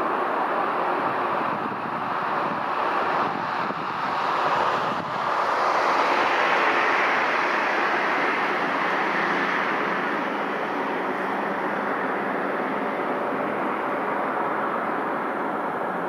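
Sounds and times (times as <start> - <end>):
jet engine rushing: 0.0 - 16.0.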